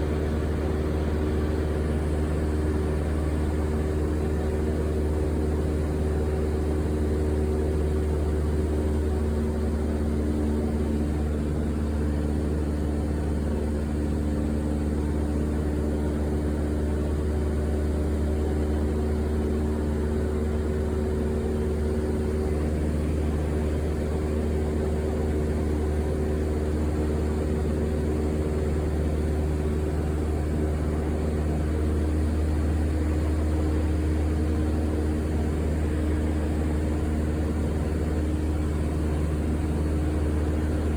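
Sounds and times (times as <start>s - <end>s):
airplane engine drone: 0.0s - 40.9s.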